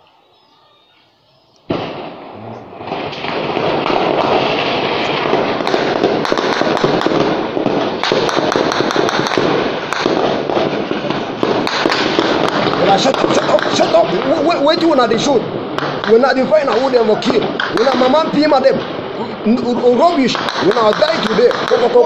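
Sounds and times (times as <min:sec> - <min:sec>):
heavy rapid gunfire: 0:01.7 - 0:22.0
loud explosion: 0:01.7 - 0:22.0.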